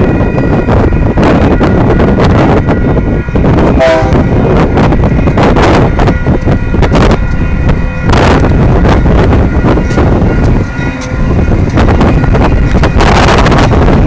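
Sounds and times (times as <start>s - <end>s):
diesel locomotive engines rumbling: 0.0s - 14.0s
wind buffeting microphone: 0.0s - 14.0s.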